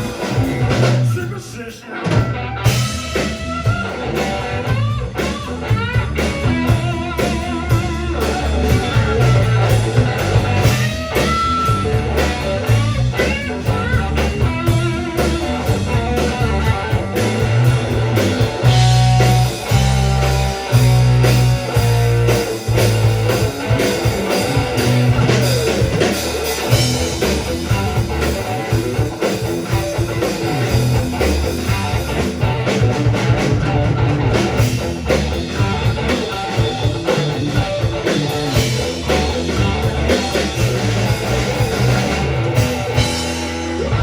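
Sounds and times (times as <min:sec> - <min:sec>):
rock band playing: 0:00.0 - 0:44.0.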